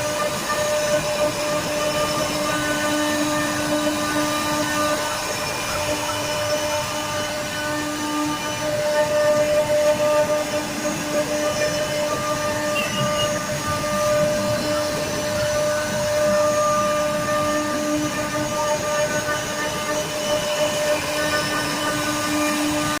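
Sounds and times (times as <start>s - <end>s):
woodworking machine whining: 0.0s - 23.0s.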